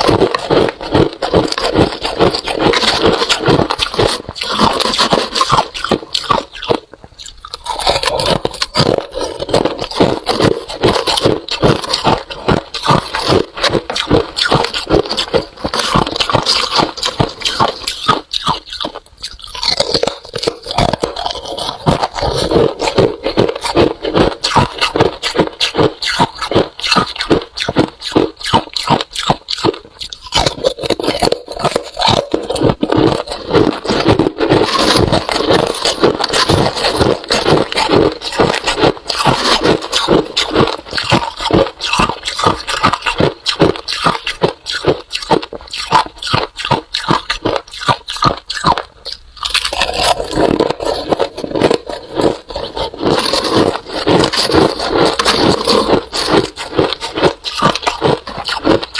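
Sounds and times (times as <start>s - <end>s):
ice being crunched by chewing: 0.0s - 58.9s.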